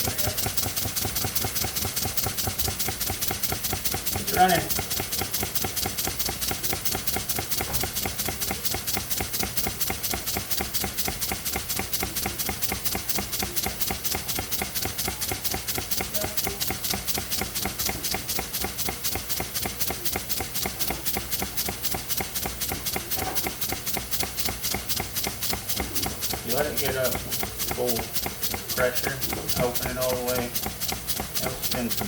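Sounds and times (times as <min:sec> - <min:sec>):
steam engine knocking and puffing: 0:00.0 - 0:32.0.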